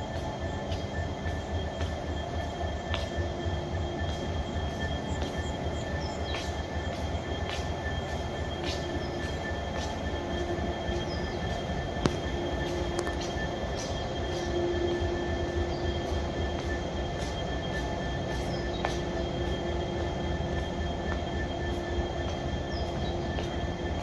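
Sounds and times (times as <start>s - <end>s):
faint high whine: 0.0s - 24.0s
rail clicks: 0.0s - 24.0s
train rumbling on rails: 0.0s - 24.0s.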